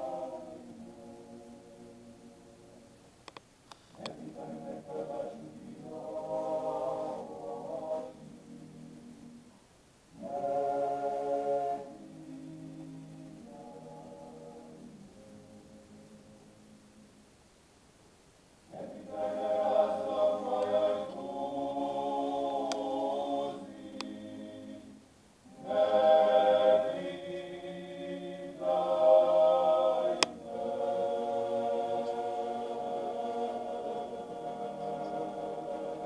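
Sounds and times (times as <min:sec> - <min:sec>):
men singing a cappella in harmony: 0:00.0 - 0:02.1, 0:04.0 - 0:09.4, 0:10.2 - 0:15.6, 0:18.7 - 0:36.0.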